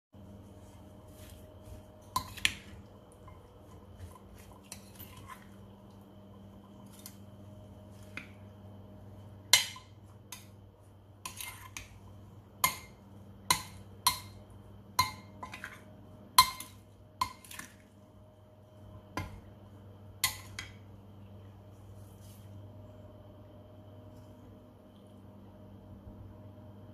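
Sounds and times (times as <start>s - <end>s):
faint steady hum: 0.2s - 26.9s.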